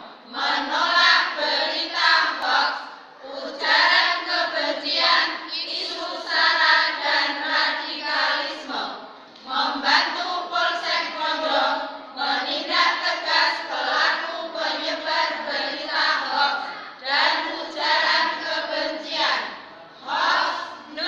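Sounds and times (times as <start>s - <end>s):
women's choir singing: 0.0s - 21.0s.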